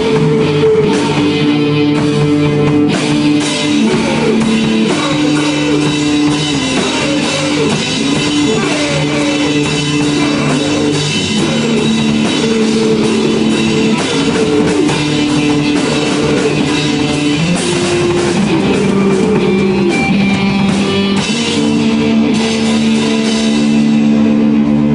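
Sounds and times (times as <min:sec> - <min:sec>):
distorted electric guitar: 0:00.0 - 0:24.9
drum kit with cymbals: 0:00.0 - 0:24.9.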